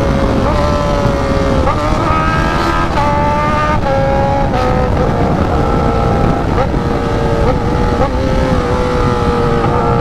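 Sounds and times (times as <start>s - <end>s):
motorcycle engine running: 0.0s - 10.0s
wind rush: 0.0s - 10.0s.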